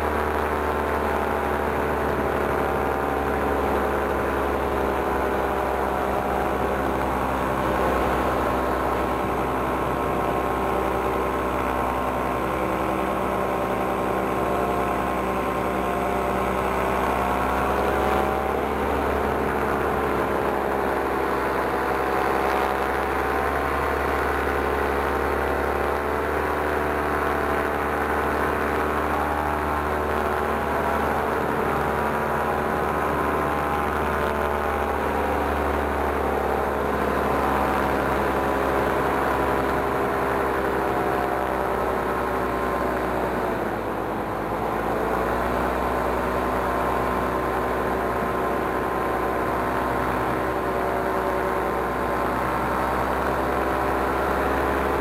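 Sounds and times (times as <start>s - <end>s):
paramotor engine running: 0.0s - 55.0s.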